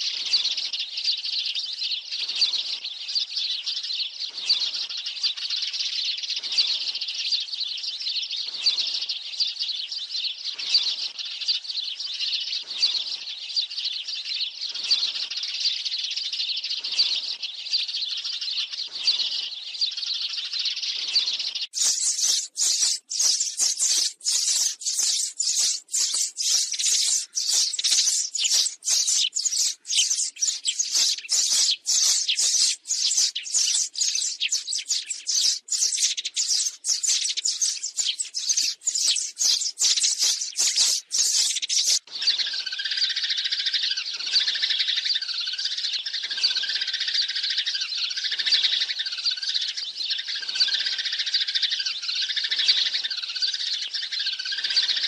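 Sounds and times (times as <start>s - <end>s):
dull dense looped bird chorus: 0.0s - 55.0s
sparrows chirping: 0.0s - 55.0s.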